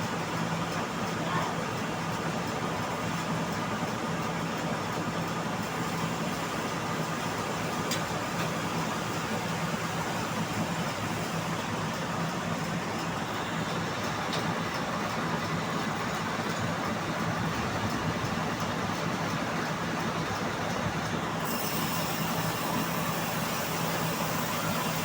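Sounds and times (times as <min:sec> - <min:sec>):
band sawmill running: 0:00.0 - 0:25.0.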